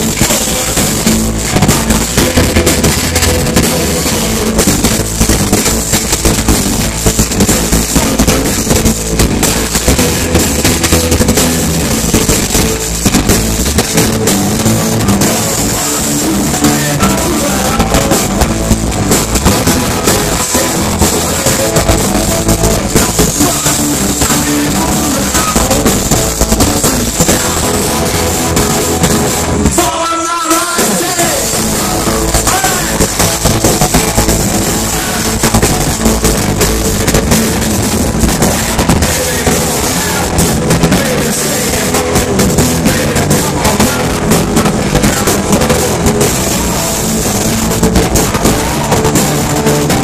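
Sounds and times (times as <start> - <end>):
person singing: 0.0 - 50.0
rock band playing loud: 0.0 - 50.0.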